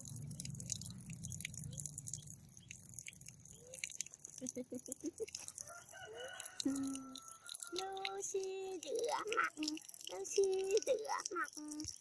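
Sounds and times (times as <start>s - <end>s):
water drips and splashes: 0.0s - 12.0s
water pouring and splattering: 0.0s - 12.0s.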